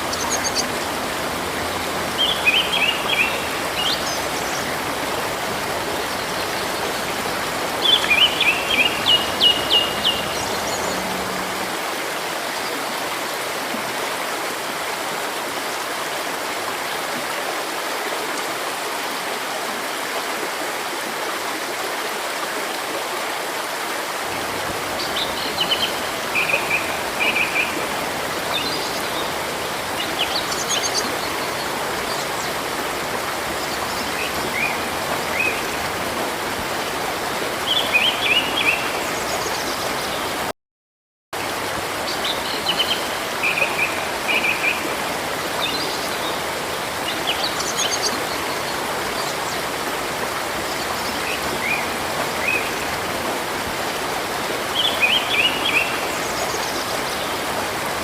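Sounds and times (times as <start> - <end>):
flowing river: 0.0 - 40.5, 41.4 - 58.0.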